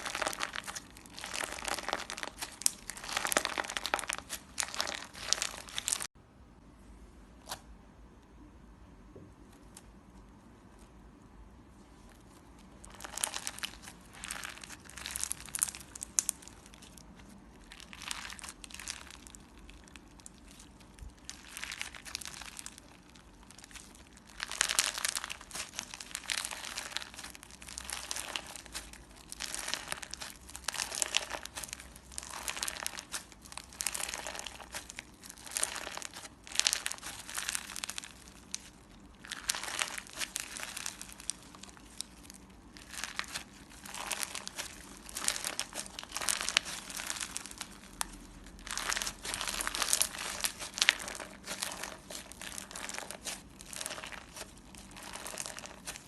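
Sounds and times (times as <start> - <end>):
crinkly slime squishing by hand: 0.0 - 6.2, 9.4 - 56.0.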